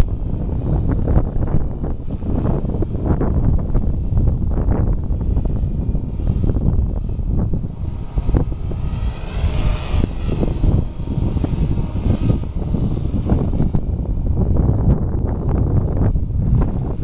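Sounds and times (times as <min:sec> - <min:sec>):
toy helicopter motor whine: 0:00.0 - 0:17.0
wind buffeting microphone: 0:00.0 - 0:17.0.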